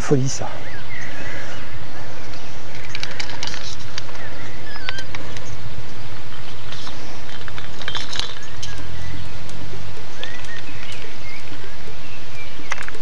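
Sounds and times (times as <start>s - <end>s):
small birds chirping: 0.0s - 13.0s
steady rushing noise: 0.0s - 13.0s.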